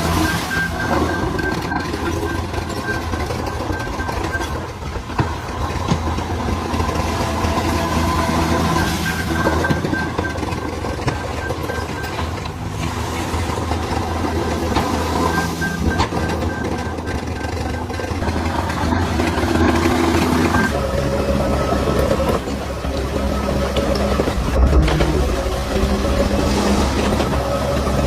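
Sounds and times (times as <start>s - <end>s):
bulldozer diesel engine under load: 0.0s - 28.0s
tracks and blade clanking: 0.0s - 28.0s.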